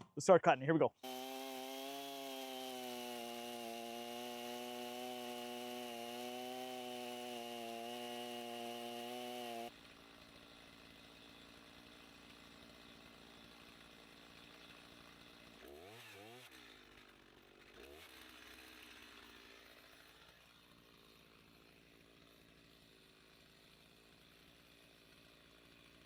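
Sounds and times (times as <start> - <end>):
chainsaw cutting wood: 1.0 - 26.0.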